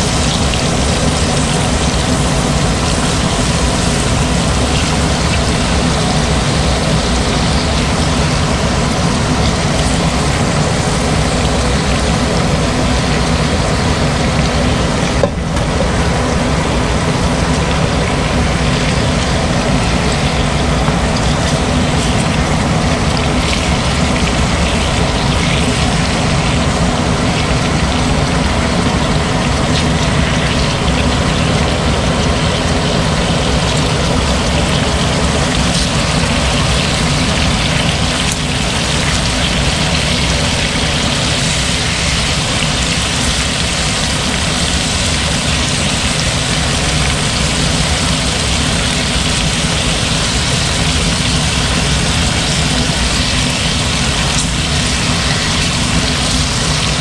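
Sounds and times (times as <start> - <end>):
low mechanical drone: 0.0 - 57.0
oil sizzling in wok: 0.0 - 57.0.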